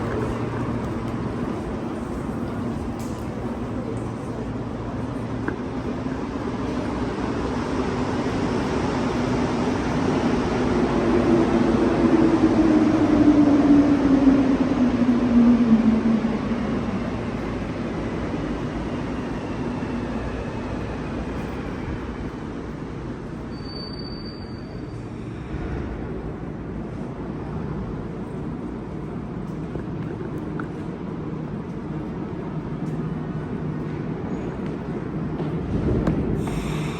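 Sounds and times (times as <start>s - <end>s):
subway train rumble: 0.0s - 36.9s.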